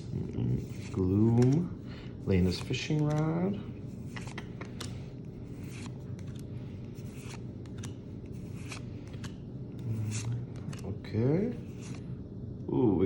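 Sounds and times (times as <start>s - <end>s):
trading cards swishing and ticking: 0.0s - 12.1s
steady low hum: 0.0s - 13.0s.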